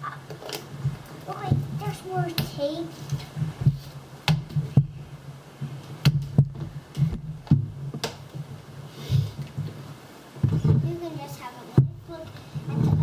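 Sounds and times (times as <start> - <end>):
handling noise rumble: 0.0 - 13.0.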